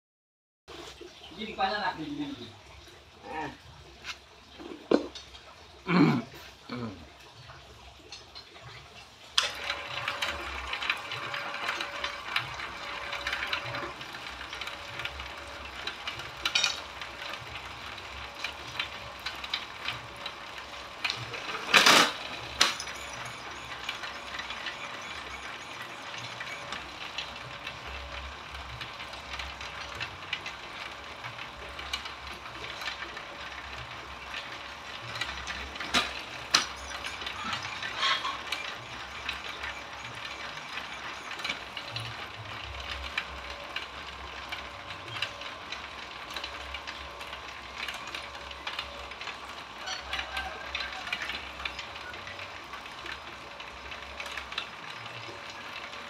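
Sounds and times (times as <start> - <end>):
electric motor running: 9.4 - 56.0
slicing machine clattering: 9.4 - 56.0.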